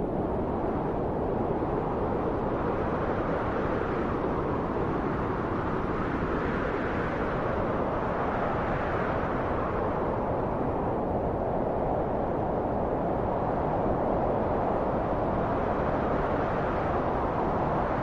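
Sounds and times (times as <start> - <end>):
steady wind: 0.0 - 18.0.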